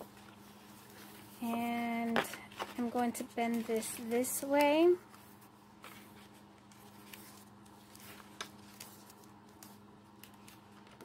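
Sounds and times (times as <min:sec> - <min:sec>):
cardstock rustling: 0:00.0 - 0:11.0.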